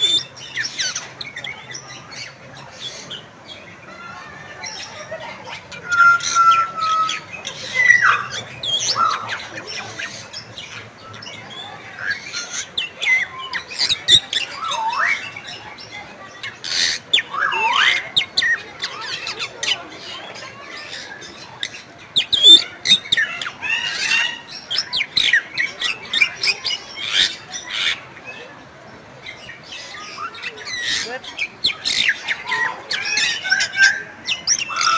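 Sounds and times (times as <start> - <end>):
starling calling: 3.9 - 28.1, 29.3 - 34.9.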